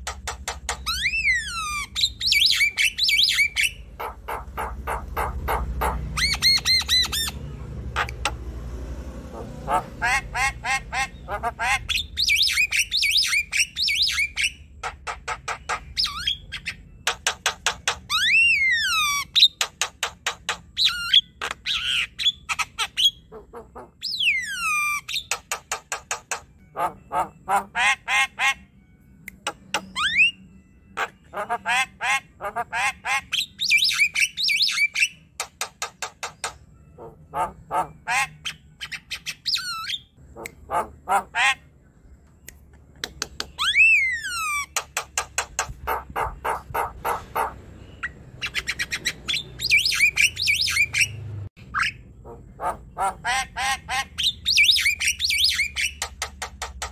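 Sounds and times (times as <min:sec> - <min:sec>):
bird chattering song: 0:00.0 - 0:08.4, 0:09.4 - 0:28.6, 0:29.3 - 0:30.4, 0:31.0 - 0:56.9.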